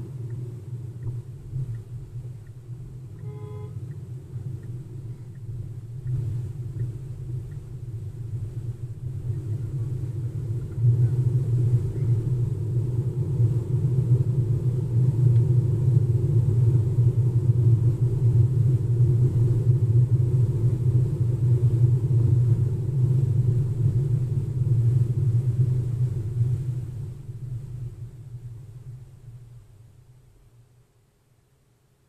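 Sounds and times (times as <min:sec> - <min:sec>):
road and tyre rumble in car cabin: 0:00.0 - 0:32.0.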